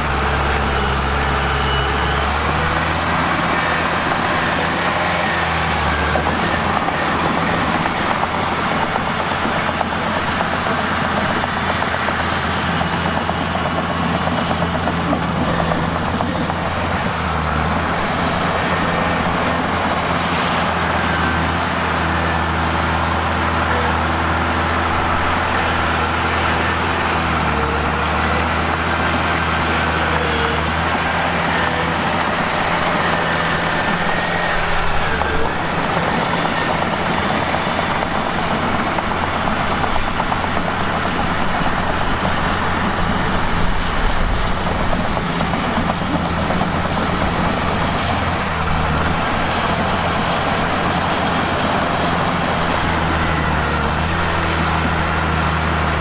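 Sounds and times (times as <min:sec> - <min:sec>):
bulldozer diesel engine running: 0:00.0 - 0:56.0
rough noisy machine working: 0:00.0 - 0:56.0.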